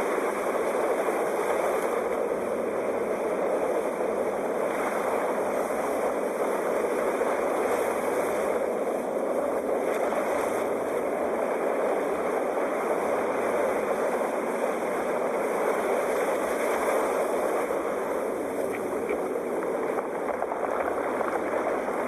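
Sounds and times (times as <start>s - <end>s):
sea surf rushing: 0.0s - 22.0s.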